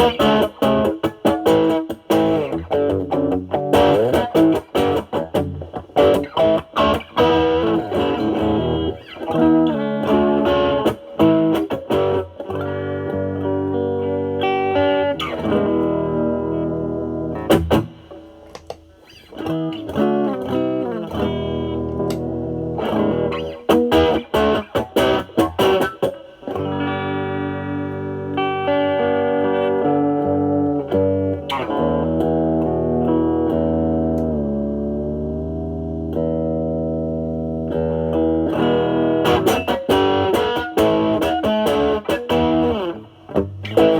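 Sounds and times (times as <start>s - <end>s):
overdriven electric guitar: 0.0s - 43.9s.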